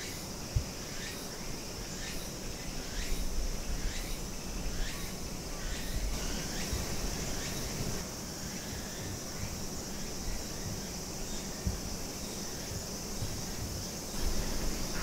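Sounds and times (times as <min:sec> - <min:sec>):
insect drone: 0:00.0 - 0:15.0
swooping insect call: 0:00.0 - 0:15.0.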